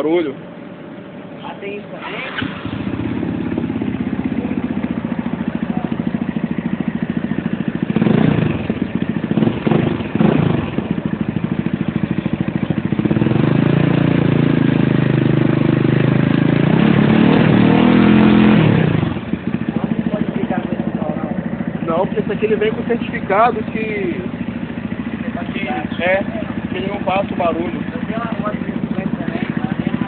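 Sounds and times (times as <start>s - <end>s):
motorcycle engine revving: 1.6s - 30.0s.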